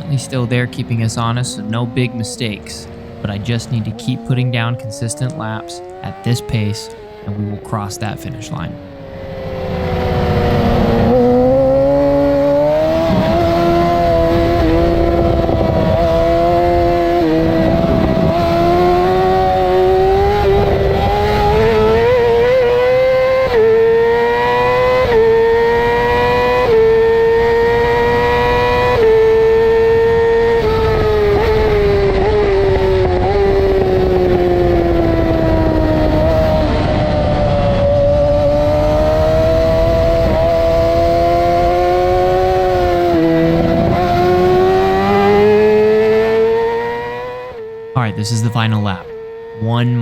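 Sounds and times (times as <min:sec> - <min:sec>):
motorcycle engine at high revs: 0:02.9 - 0:07.6, 0:08.4 - 0:48.0, 0:48.6 - 0:50.0.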